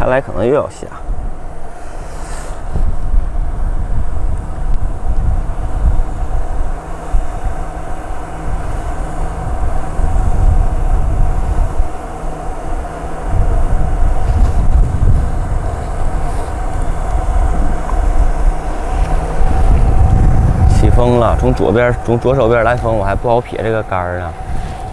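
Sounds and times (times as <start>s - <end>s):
steady mechanical hum: 0.0s - 24.9s
wind gusting over microphone: 0.0s - 24.9s.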